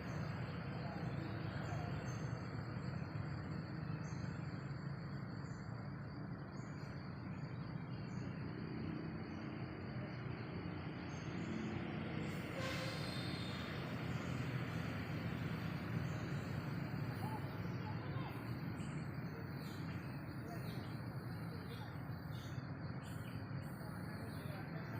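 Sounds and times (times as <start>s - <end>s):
high insect drone: 0.0s - 24.9s
high insect or bird chirps: 0.0s - 24.9s.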